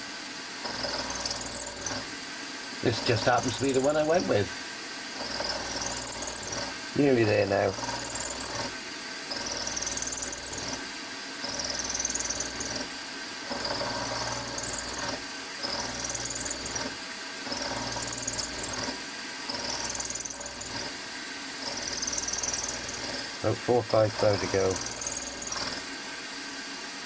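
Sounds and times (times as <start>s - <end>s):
milling machine cutting metal: 0.6s - 2.2s, 2.8s - 21.0s, 21.6s - 26.0s.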